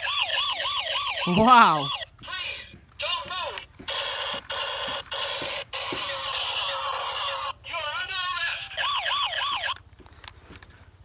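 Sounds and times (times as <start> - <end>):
toy siren wailing: 0.0 - 9.8.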